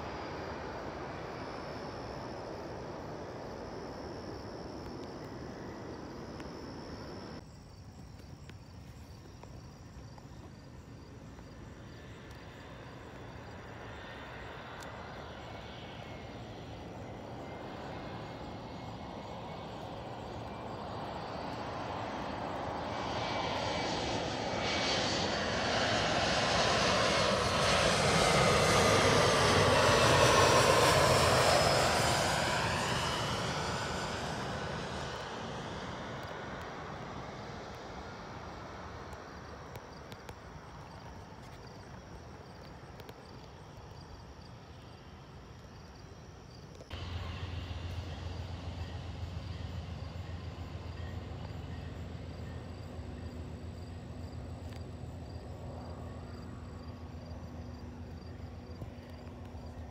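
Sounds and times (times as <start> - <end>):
jet airliner flying over: 0.0 - 59.9.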